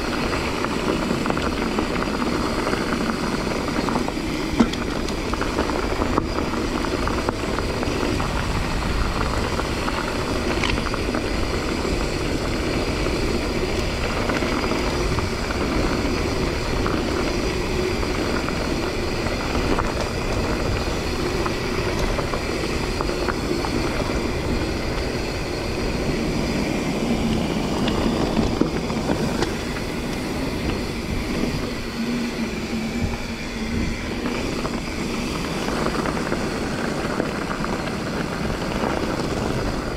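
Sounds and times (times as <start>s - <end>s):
bike clicks and rattles: 0.0s - 39.9s
bike tyres rumbling on gravel: 0.0s - 39.9s
wind buffeting microphone: 0.0s - 39.9s.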